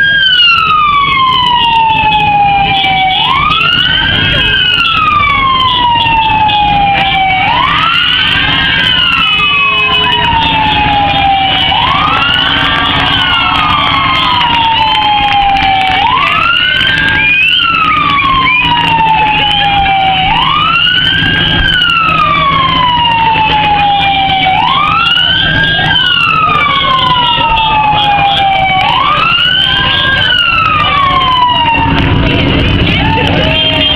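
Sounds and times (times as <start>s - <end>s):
electronic siren wailing: 0.0s - 33.9s.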